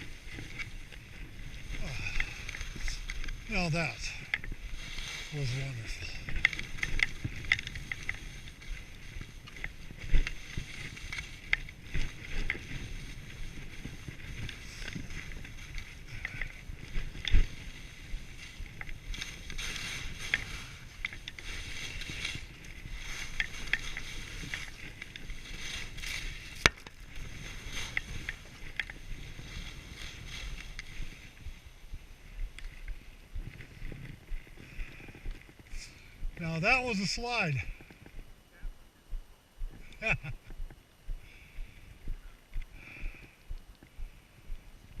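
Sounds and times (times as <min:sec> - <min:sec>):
wind on microphone: 0:00.0 - 0:36.5
skis swishing through powder snow: 0:00.0 - 0:37.7.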